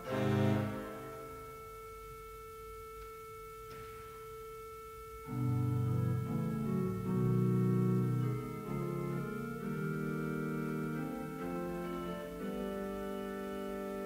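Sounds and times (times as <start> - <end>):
organ playing chords: 0.0 - 14.0.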